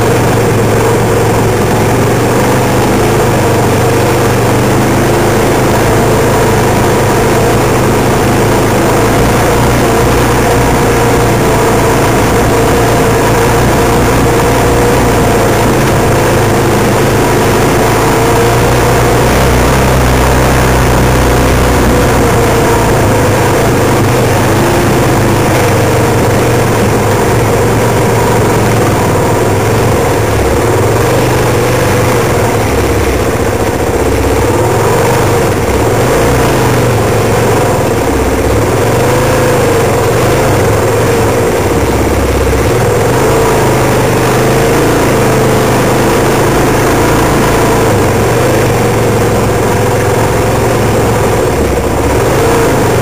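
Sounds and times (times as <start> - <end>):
off-road motorcycle engines running: 0.0 - 53.0.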